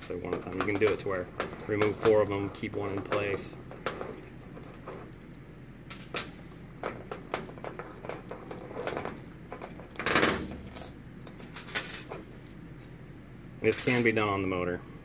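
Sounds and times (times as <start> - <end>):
small bolts clinking on metal table: 0.0 - 13.0, 13.7 - 14.2.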